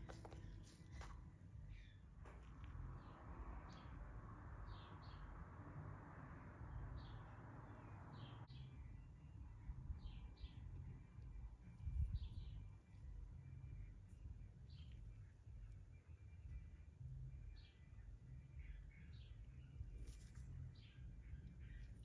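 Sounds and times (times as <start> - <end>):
faint bird chirps: 0.0 - 5.5, 6.4 - 22.0
low background rumble: 0.0 - 22.0.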